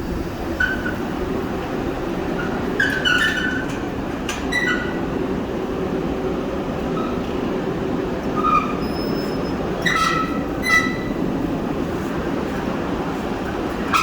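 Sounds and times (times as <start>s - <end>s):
metal wheels rumbling on track: 0.0s - 14.0s.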